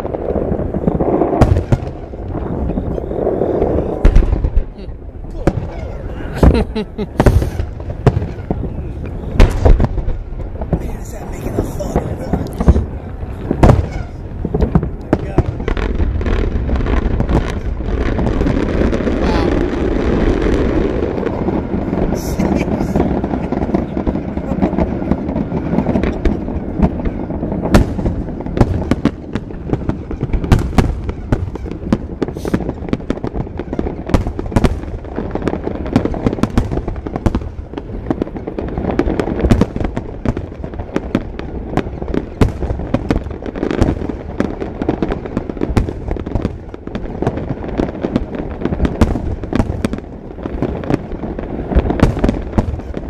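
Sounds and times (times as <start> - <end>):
continuous low rumble: 0.0 - 53.0
fireworks bursting: 0.0 - 53.0.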